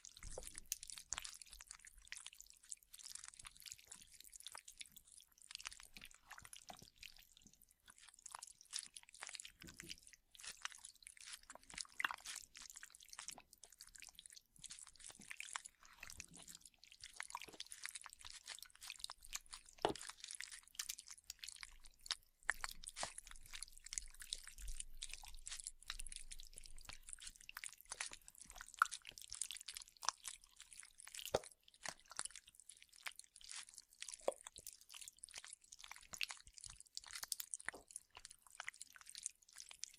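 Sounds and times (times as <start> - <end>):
wet chewing and biting: 0.0 - 39.9.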